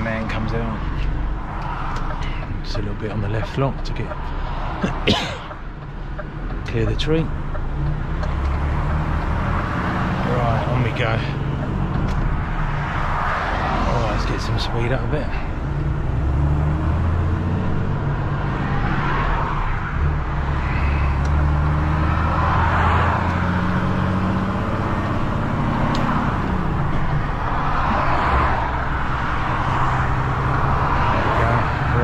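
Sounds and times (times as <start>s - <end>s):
truck diesel engine accelerating: 0.0s - 32.0s.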